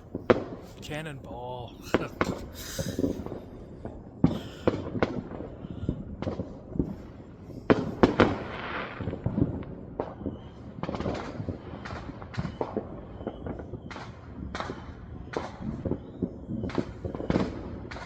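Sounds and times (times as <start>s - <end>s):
fireworks crackling: 0.0s - 14.8s
fireworks banging: 0.0s - 18.0s.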